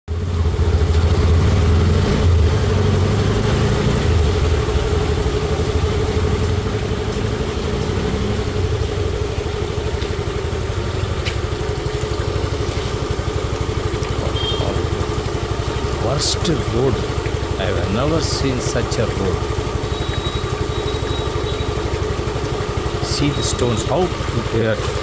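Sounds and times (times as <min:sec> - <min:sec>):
motorcycle engine idling: 0:00.1 - 0:25.0.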